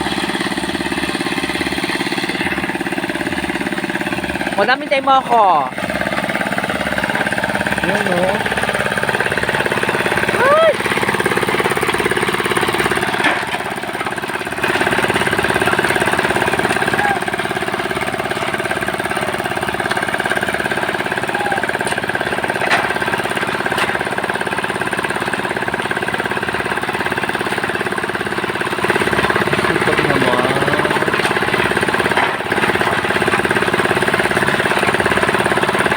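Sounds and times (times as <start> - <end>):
construction machinery pounding: 0.0 - 35.9.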